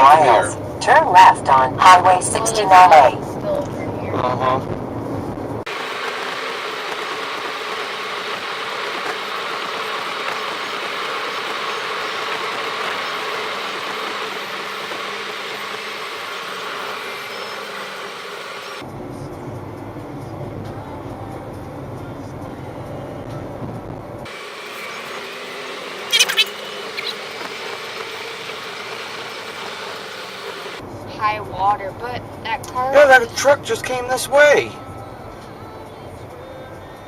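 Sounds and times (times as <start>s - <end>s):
vehicle road noise: 0.0s - 37.0s.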